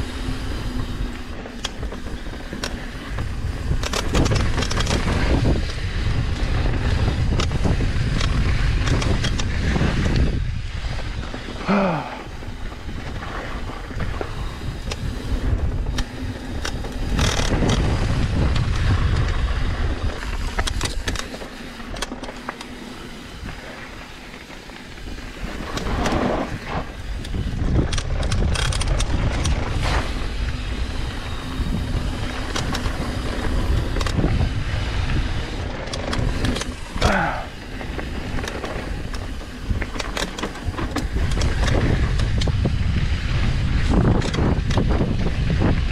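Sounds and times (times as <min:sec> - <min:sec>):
wind rushing over microphone: 0:00.0 - 0:21.2, 0:24.9 - 0:45.9
bike knocks and rattles: 0:00.0 - 0:45.9
tyres rolling on dirt: 0:00.0 - 0:45.9.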